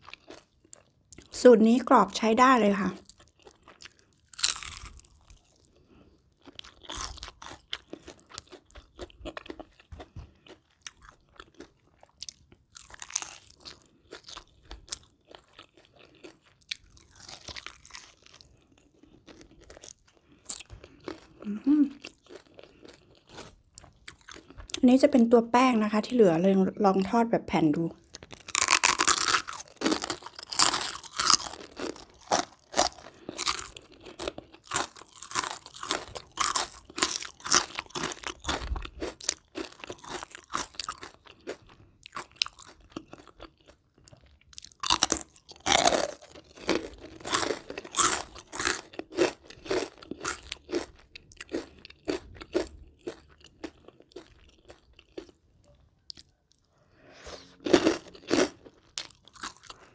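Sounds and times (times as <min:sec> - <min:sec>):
crunching crispy food: 0:00.0 - 0:01.4, 0:03.0 - 0:24.8, 0:28.0 - 0:55.4, 0:57.6 - 0:59.9.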